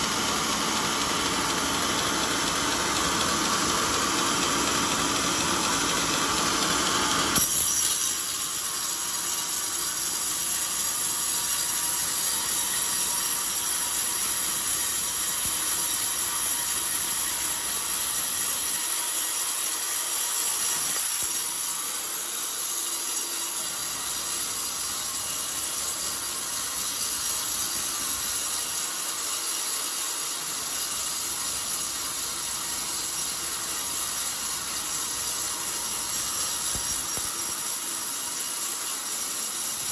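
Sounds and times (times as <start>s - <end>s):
band saw blade cutting wood: 4.9s - 39.9s.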